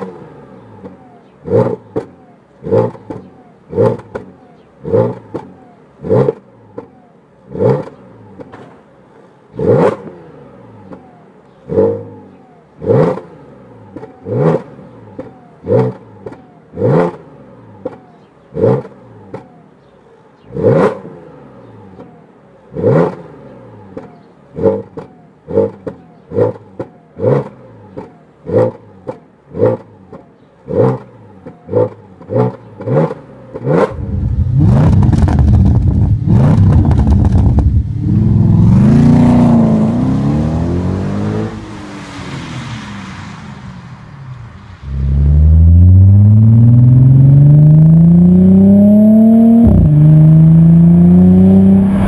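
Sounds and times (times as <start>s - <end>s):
car engine revving: 0.0s - 8.8s, 9.5s - 19.8s, 20.5s - 52.0s.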